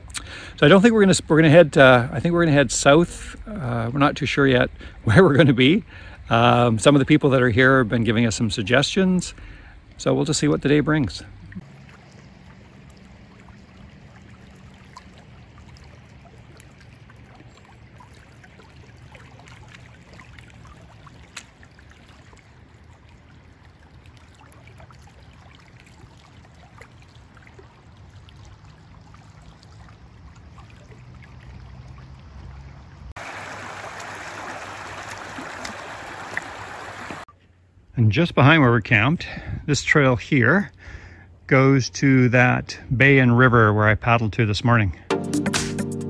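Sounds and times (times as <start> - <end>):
creek trickling over stones: 0.0 - 37.3
lake water lapping on pebbles: 0.0 - 37.4.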